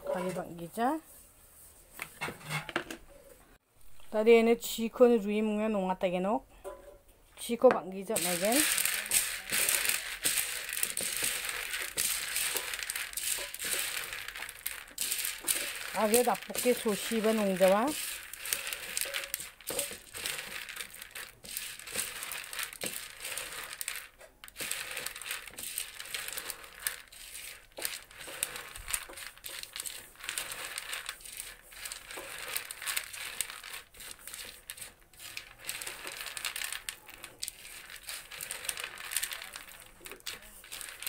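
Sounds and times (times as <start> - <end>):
chickpeas rattling on a ceramic plate: 8.0 - 41.0.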